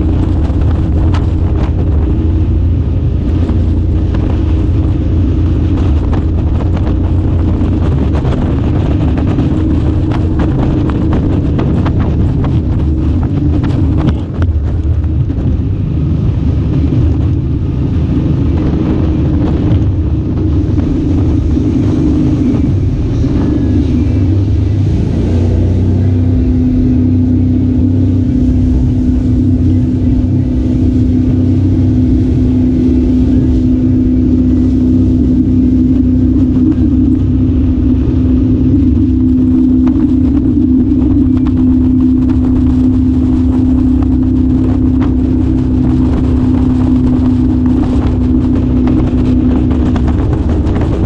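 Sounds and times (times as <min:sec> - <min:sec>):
engine rumbling: 0:00.0 - 0:51.0.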